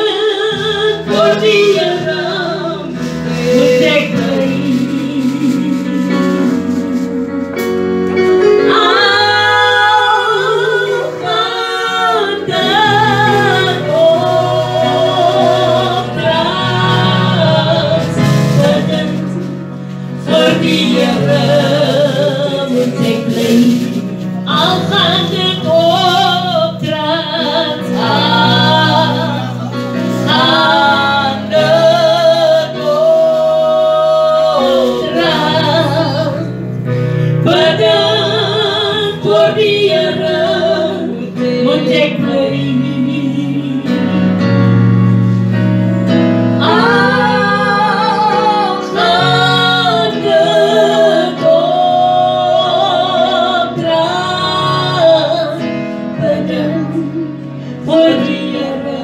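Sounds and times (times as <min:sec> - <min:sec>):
woman singing gospel song: 0:00.0 - 0:07.1, 0:08.6 - 0:19.6, 0:20.2 - 0:36.6, 0:37.4 - 0:44.2, 0:46.6 - 0:59.0.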